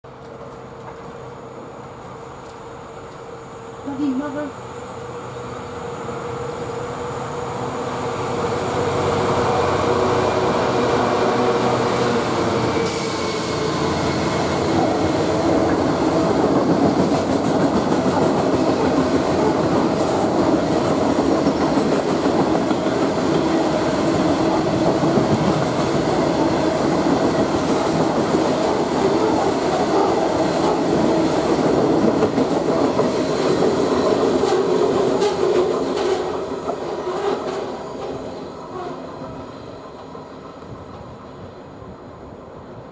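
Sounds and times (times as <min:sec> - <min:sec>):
diesel locomotive passing: 0:00.1 - 0:42.9.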